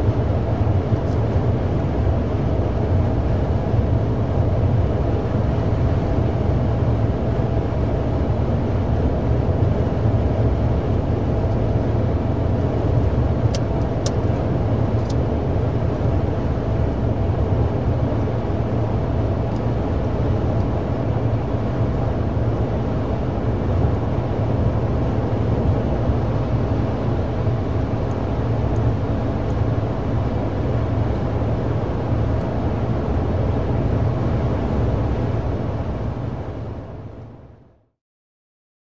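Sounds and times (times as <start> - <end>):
faint steady hum: 0.0 - 37.8.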